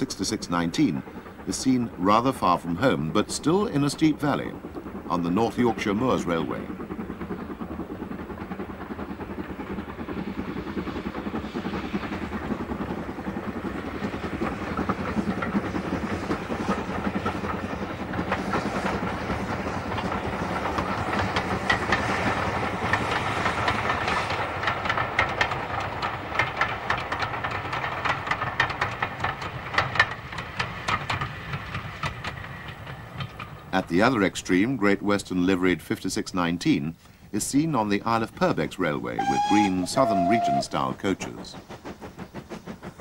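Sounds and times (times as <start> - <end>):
steam locomotive passing: 0.0 - 43.0
train wheels clicking over rail joints: 0.0 - 43.0.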